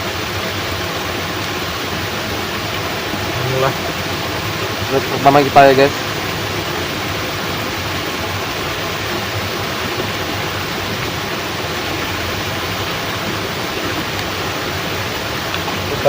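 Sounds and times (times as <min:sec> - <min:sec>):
heavy rain: 0:00.0 - 0:16.0
water pouring through sluice gate: 0:00.0 - 0:16.0.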